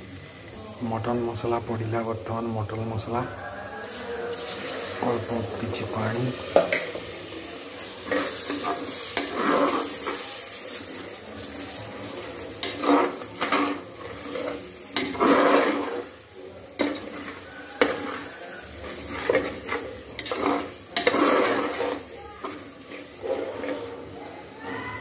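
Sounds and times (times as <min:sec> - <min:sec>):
metal spatula scraping pot: 0:03.8 - 0:07.1, 0:07.8 - 0:25.0.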